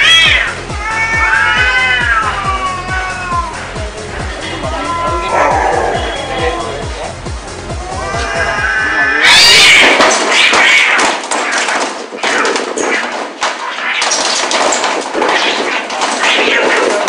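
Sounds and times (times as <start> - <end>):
cats screeching and yowling: 0.0 - 6.8, 7.7 - 17.0.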